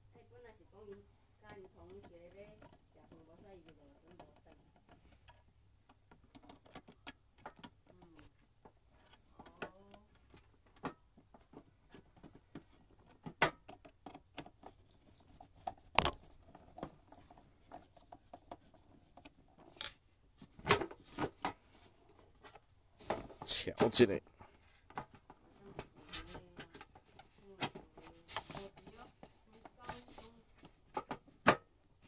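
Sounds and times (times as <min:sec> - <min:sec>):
plastic parts clicking and knocking: 0:00.8 - 0:32.0.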